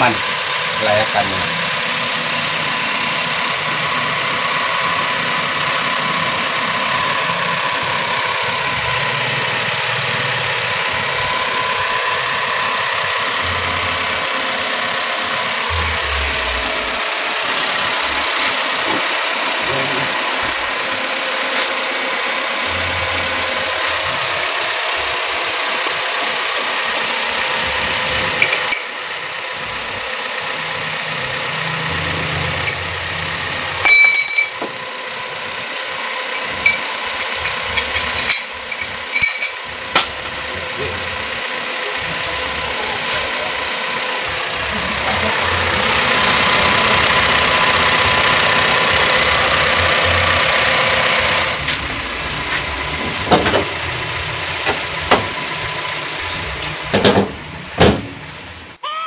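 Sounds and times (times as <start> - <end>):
car engine idling: 0.0 - 58.8.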